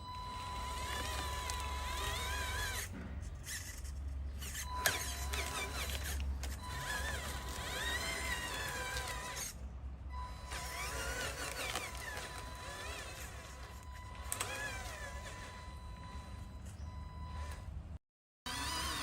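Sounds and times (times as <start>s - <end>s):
small electric motors whining: 0.0s - 17.8s, 18.5s - 19.0s.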